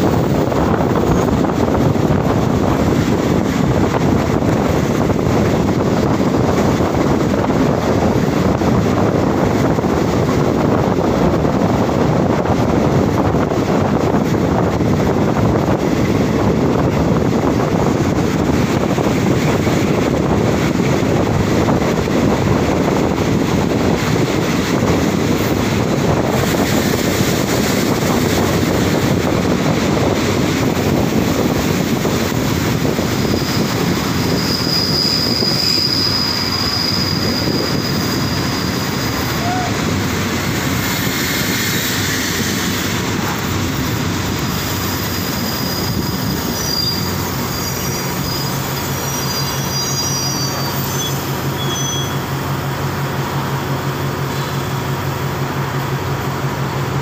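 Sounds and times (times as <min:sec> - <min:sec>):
wind buffeting the microphone: 0:00.0 - 0:49.8
wind rushing: 0:00.0 - 0:49.8
wheels on rails: 0:00.0 - 0:57.0.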